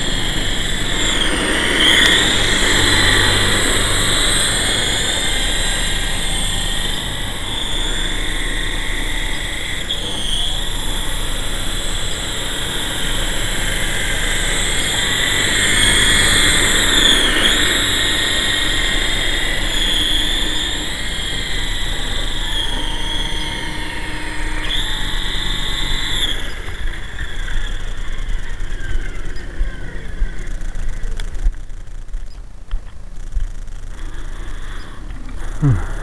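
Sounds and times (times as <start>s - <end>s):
rc helicopter whining: 0.0s - 36.0s.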